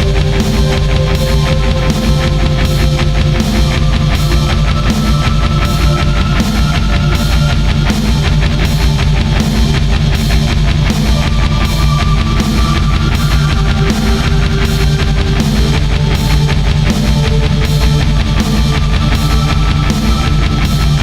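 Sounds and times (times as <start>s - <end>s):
heavy metal music: 0.0s - 21.0s.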